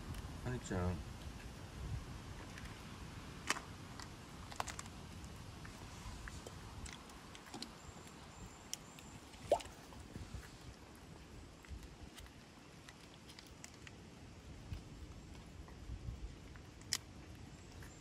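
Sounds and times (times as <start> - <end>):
cat chewing dry kibble: 2.3 - 9.2, 10.3 - 18.0.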